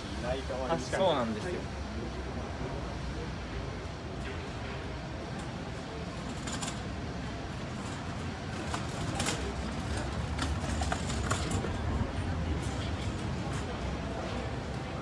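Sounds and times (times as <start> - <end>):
footsteps of passers-by: 0.0 - 15.0
low city hum: 0.0 - 15.0.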